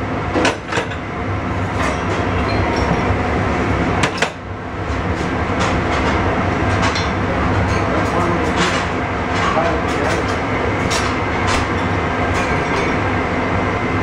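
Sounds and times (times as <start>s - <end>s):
mechanical rumble and hiss: 0.0s - 14.0s.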